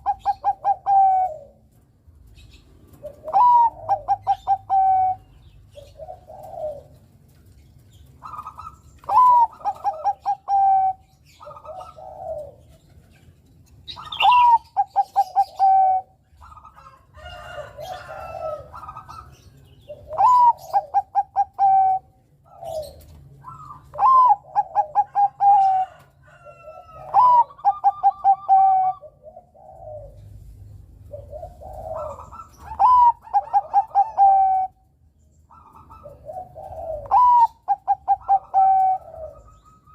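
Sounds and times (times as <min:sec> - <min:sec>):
dove cooing: 0:00.0 - 0:01.8, 0:02.4 - 0:39.9.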